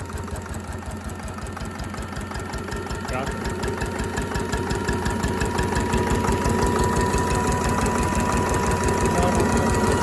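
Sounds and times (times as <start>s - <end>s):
diesel engine chugging: 0.0s - 10.0s.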